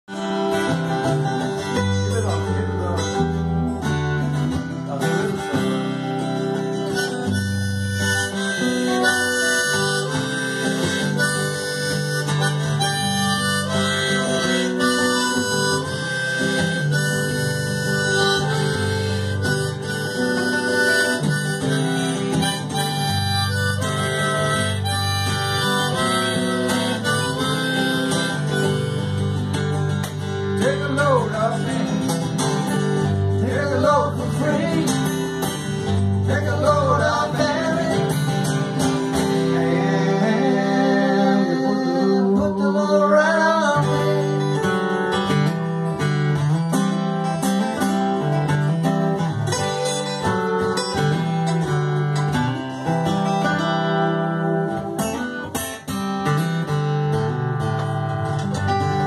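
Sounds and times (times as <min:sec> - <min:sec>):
harmonica playing: 0:00.1 - 0:42.2, 0:43.6 - 0:59.0
strummed acoustic guitars: 0:00.1 - 0:59.0.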